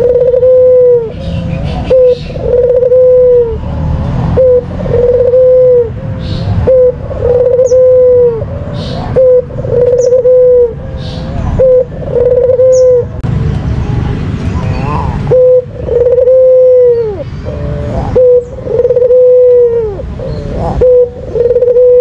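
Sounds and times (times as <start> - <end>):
dove cooing: 0.0 - 13.2, 14.8 - 22.0.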